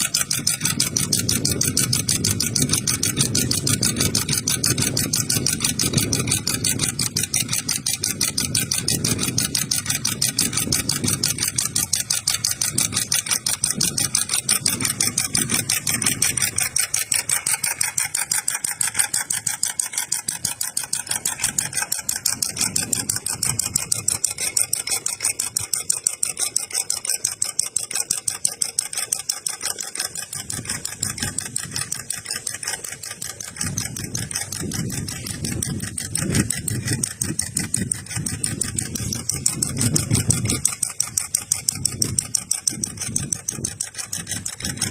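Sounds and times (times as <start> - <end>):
model engine clattering: 0.0 - 44.9.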